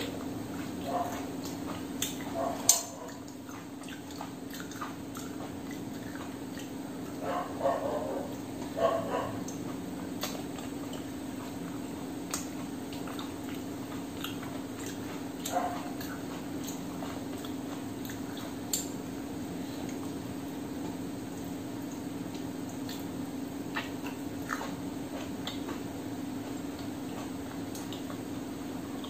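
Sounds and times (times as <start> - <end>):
person chewing and smacking: 0.0 - 29.0
steady low hum: 0.0 - 29.0.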